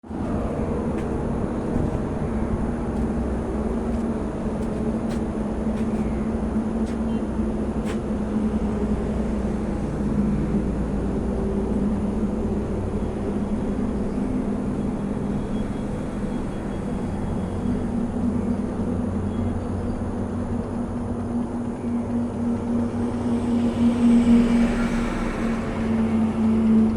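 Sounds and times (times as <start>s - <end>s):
engine running steadily: 0.0s - 26.9s.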